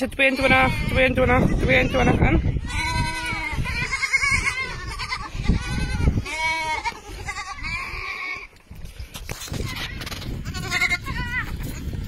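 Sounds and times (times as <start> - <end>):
lambs bleating: 0.1 - 8.6, 9.5 - 11.6.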